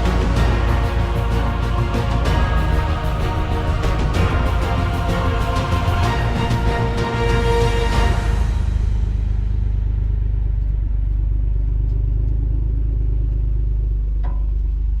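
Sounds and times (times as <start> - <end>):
car engine low rumble: 0.0 - 7.1, 8.2 - 15.0.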